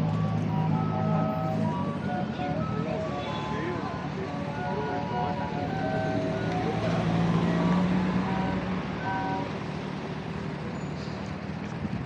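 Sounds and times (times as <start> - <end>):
road noise: 0.0 - 12.0
vehicle engines passing: 0.0 - 12.0.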